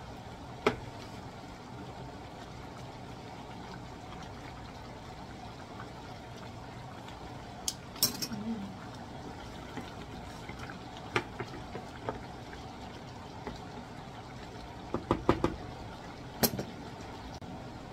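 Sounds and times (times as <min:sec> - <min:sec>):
stew simmering: 0:00.0 - 0:17.9.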